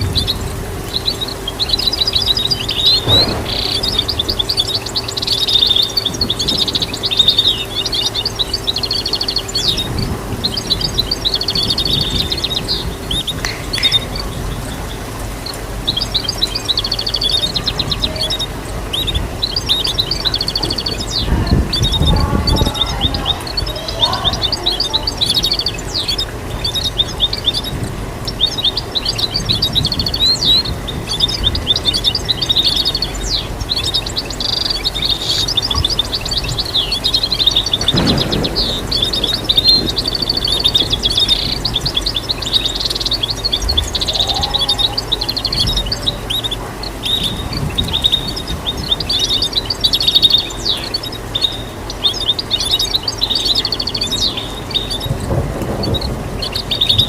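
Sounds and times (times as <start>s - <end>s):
bird singing twittering song: 0.0s - 57.0s.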